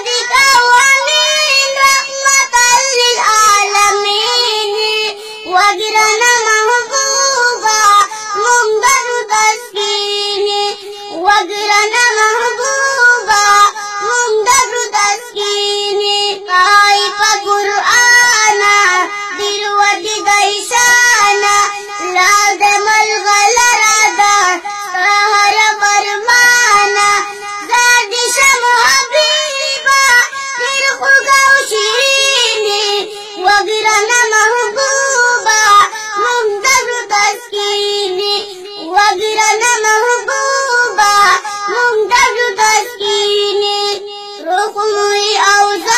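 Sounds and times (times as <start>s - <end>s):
boy singing: 0.0s - 45.9s.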